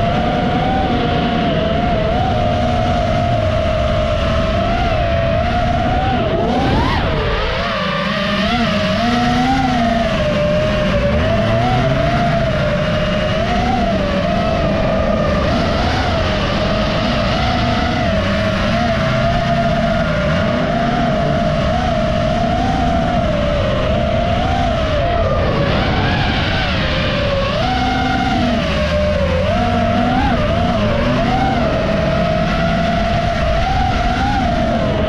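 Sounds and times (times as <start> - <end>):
quadcopter motors whining: 0.0 - 35.0
race cars rumbling: 0.0 - 35.0.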